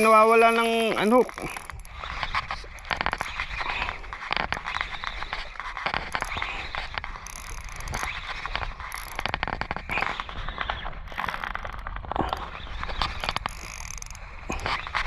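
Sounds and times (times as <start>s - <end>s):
fishing reel gear clicks: 0.0s - 15.0s.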